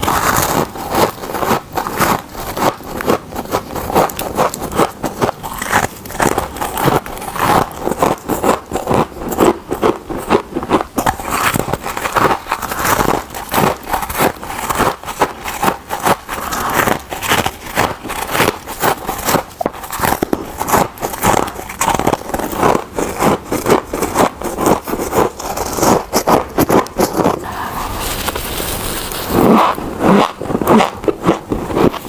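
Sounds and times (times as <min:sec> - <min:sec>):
person crunching ice: 0:00.0 - 0:32.0.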